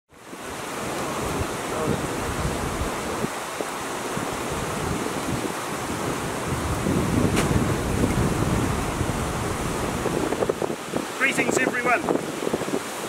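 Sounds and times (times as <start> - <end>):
steady rushing noise: 0.5 - 13.0.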